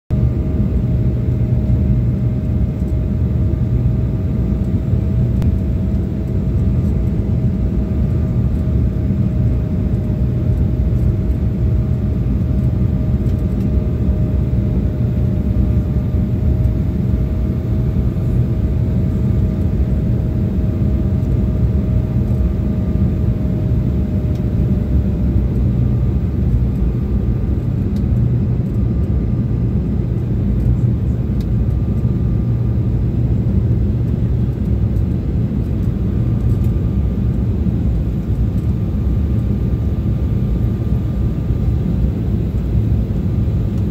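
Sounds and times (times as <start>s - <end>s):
airliner cabin rumble: 0.1s - 43.9s.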